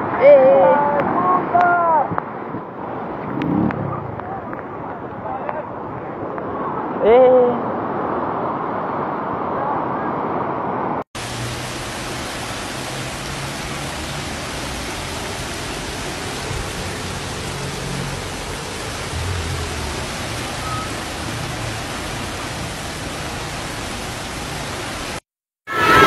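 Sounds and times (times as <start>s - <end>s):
rushing flood water: 0.0s - 25.2s.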